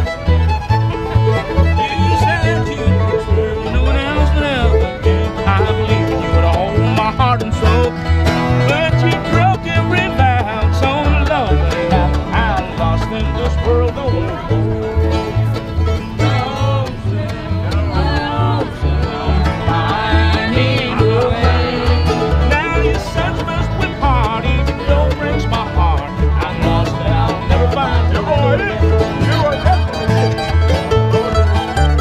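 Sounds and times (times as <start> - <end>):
bluegrass string band: 0.0 - 32.0.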